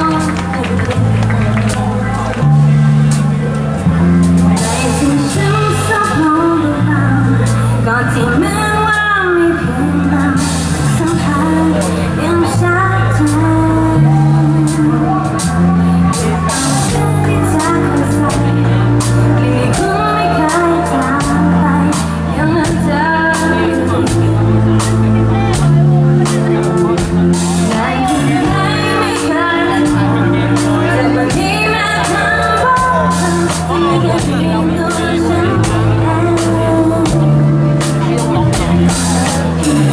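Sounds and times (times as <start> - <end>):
woman singing: 0.0 - 2.7, 4.5 - 39.9
live pop band playing: 0.0 - 39.9.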